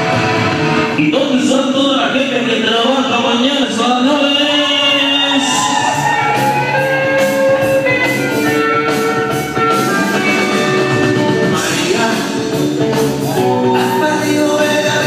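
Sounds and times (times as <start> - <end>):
rock song over sound system: 0.0 - 15.0.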